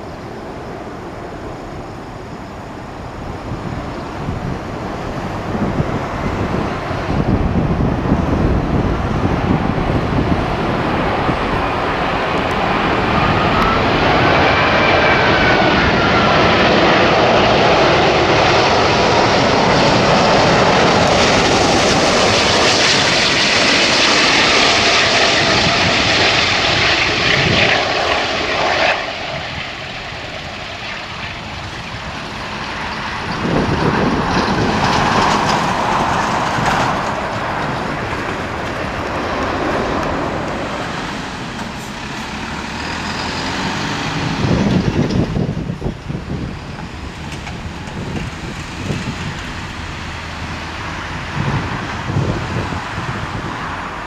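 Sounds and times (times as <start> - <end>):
gliding engine whine: 0.0 - 54.0
jet engines roaring: 0.0 - 54.0.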